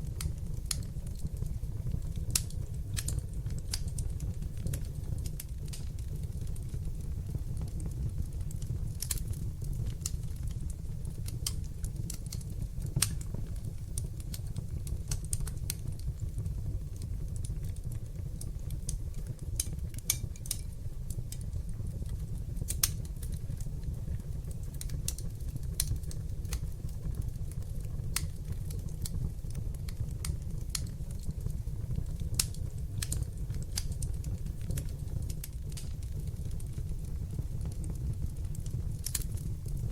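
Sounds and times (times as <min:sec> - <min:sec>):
fire crackles and pops: 0:00.0 - 0:39.9
fire flames rumbling: 0:00.0 - 0:39.9.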